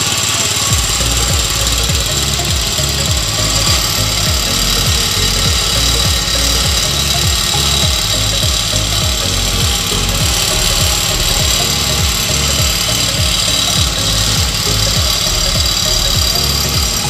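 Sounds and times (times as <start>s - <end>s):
music with steady bass beat: 0.0s - 17.0s.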